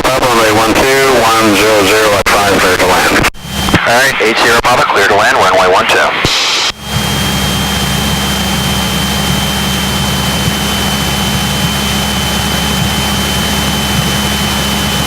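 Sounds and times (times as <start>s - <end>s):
propeller plane engine droning: 0.0s - 15.0s
thin high whine: 1.8s - 15.0s.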